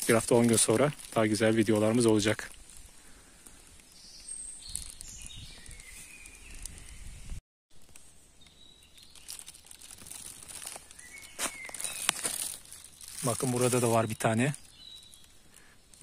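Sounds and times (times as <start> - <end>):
footsteps through dry leaves: 0.0 - 3.0, 3.9 - 7.3, 8.6 - 15.7.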